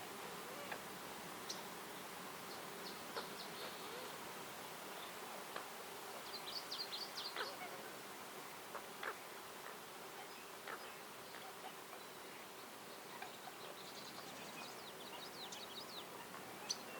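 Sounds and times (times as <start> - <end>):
soft hiss: 0.0 - 16.9.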